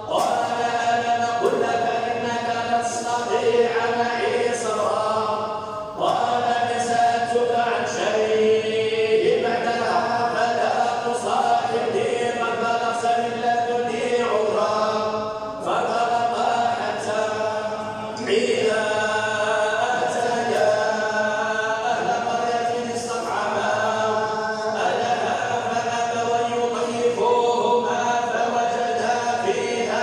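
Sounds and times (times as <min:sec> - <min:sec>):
person chanting recitation: 0:00.0 - 0:30.0.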